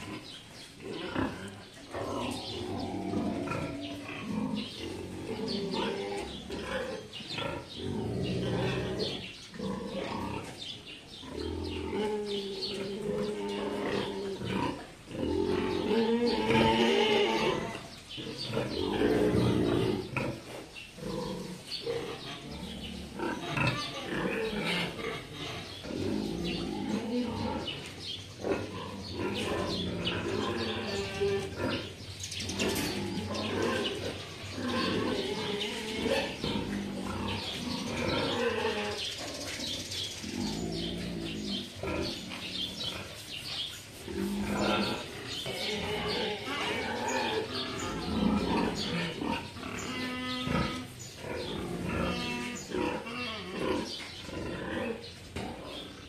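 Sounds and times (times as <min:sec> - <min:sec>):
pigs grunting and calling: 0:00.0 - 0:56.0.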